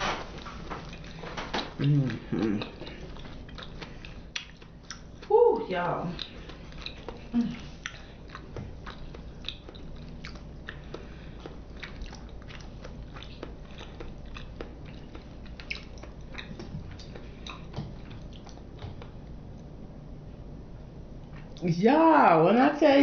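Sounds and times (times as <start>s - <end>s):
person chewing with mouth clicks: 0.4s - 19.7s.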